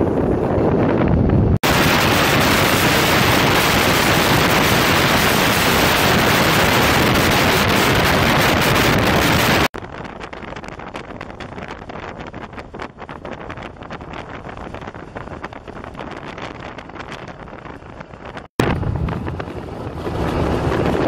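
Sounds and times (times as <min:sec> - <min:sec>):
bus running noise: 0:00.0 - 0:21.0
wind rushing over microphone: 0:00.0 - 0:21.0.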